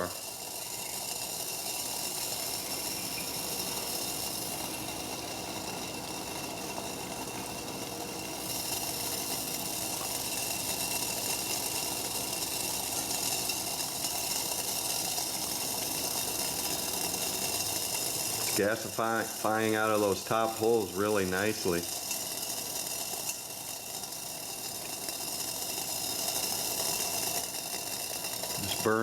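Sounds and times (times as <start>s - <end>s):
stove flame hissing: 0.0s - 29.0s
water boiling in pot: 0.0s - 29.0s.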